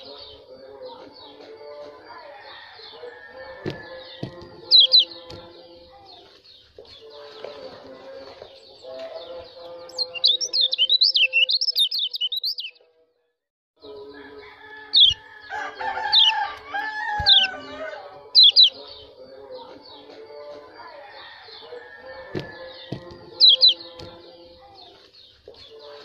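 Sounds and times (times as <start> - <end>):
bird chirping and twittering: 0.0 - 12.8, 14.6 - 26.0.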